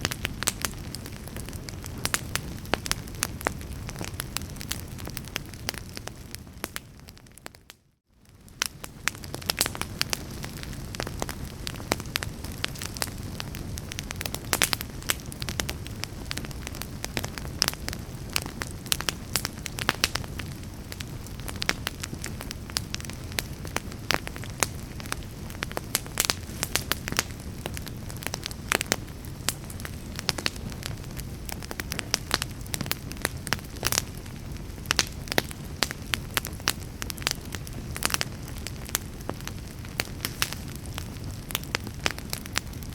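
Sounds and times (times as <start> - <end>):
fire crackles and pops: 0.0 - 42.9
fire rumbling in fireplace: 0.0 - 42.9.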